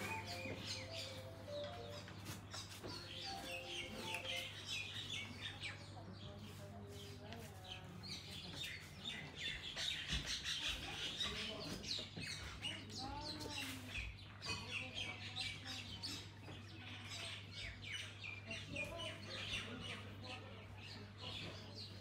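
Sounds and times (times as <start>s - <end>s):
birds chirping and tweeting: 0.0s - 22.0s.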